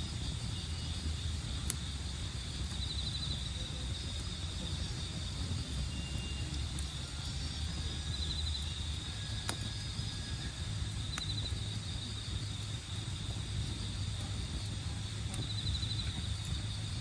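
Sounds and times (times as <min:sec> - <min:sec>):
campfire pops: 0:00.0 - 0:17.0
crickets trilling: 0:00.0 - 0:17.0
low steady rumble: 0:00.0 - 0:17.0.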